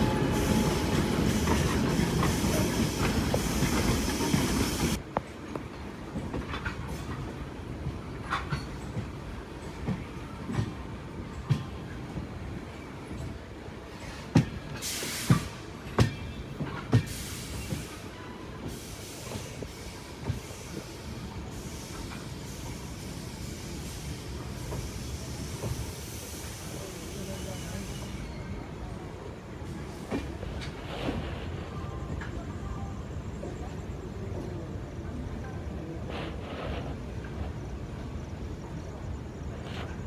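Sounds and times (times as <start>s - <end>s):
train rumbling on track: 0.0s - 40.0s.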